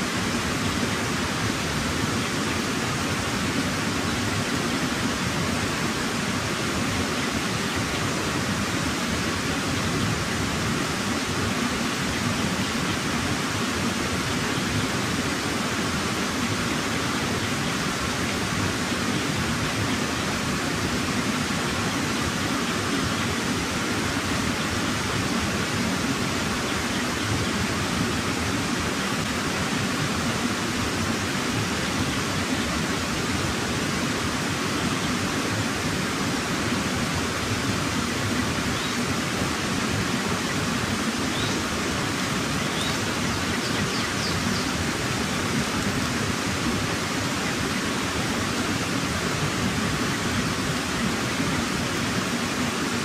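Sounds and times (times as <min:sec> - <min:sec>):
steady rushing noise: 0:00.0 - 0:53.0.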